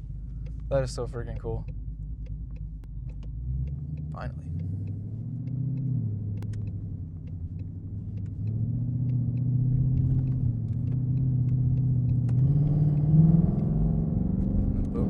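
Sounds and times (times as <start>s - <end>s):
car engine choppy idle and revving: 0.0s - 15.0s.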